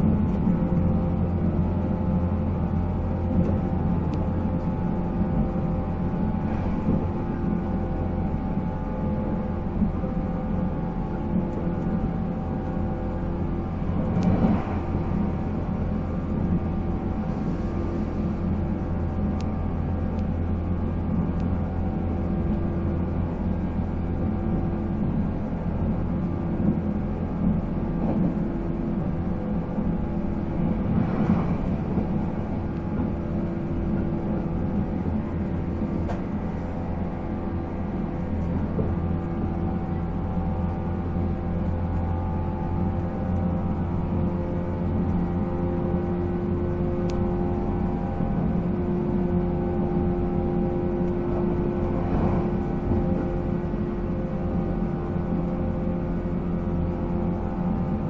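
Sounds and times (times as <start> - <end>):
train motors humming: 0.0 - 58.0
wheels rumbling on rail: 0.0 - 58.0.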